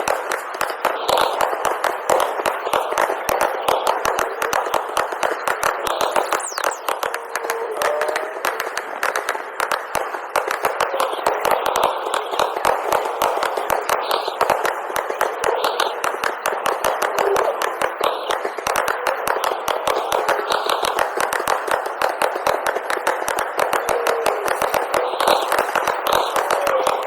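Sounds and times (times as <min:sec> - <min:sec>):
fireworks crackling pops: 0:00.0 - 0:27.0.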